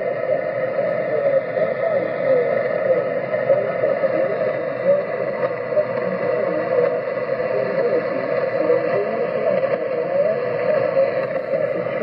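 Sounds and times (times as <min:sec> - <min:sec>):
garbled wavering radio voice: 0:00.0 - 0:12.0
shortwave radio static: 0:00.0 - 0:12.0.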